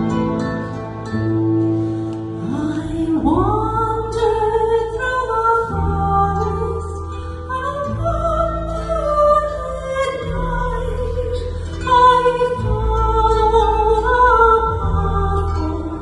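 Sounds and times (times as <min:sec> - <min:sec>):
acoustic folk music duo: 0:00.0 - 0:16.0.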